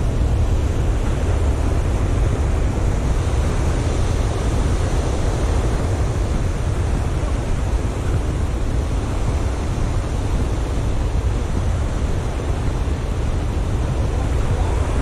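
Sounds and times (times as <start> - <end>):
surf breaking on beach: 0.0 - 15.0
wind rumbling on microphone: 0.0 - 15.0.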